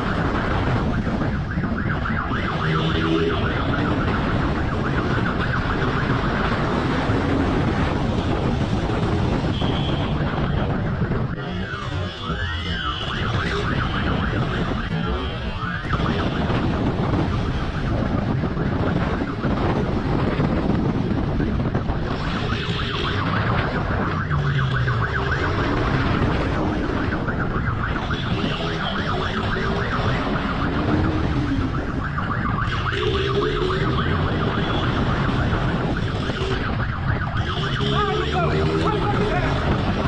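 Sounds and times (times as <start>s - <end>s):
siren wailing: 0.0s - 40.0s
wind rushing on microphone: 0.0s - 40.0s.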